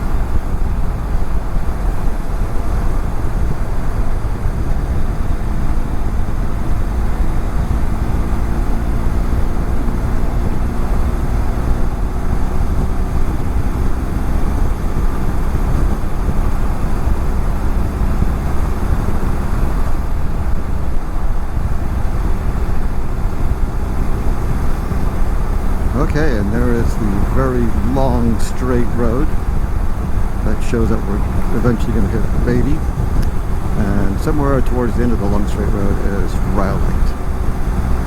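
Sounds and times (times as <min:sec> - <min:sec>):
motorcycle engine drone: 0:00.0 - 0:38.0
wind buffeting microphone: 0:00.0 - 0:38.0.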